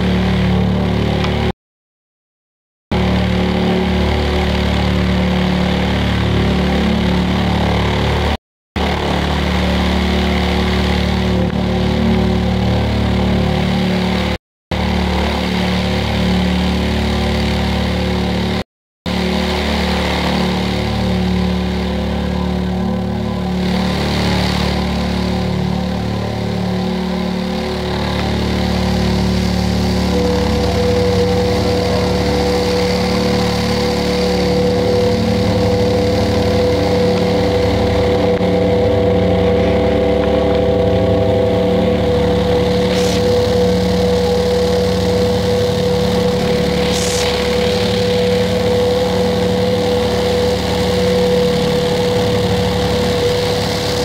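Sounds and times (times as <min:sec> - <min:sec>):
loudspeaker buzzing hum: 0:00.0 - 0:01.5, 0:02.9 - 0:54.0
higher steady tone: 0:02.9 - 0:54.0.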